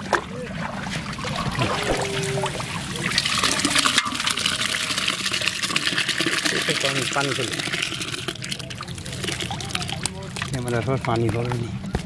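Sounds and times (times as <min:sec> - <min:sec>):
fish and water splashing: 0:00.0 - 0:11.9.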